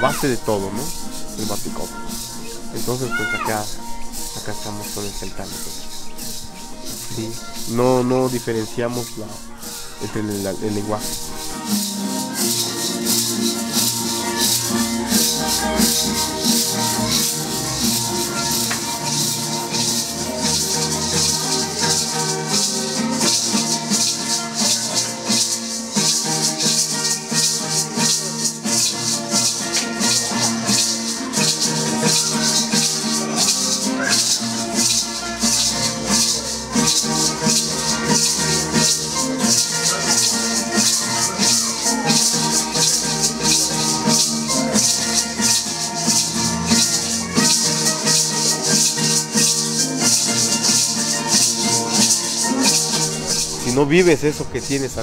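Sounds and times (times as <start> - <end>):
hand rattle shaking: 0.0 - 55.0
plucked harp and guitar: 0.0 - 55.0.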